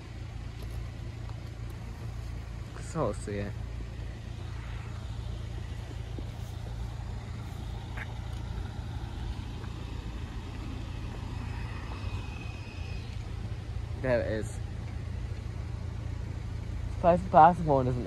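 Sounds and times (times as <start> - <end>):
road vehicles idling: 0.0 - 18.0.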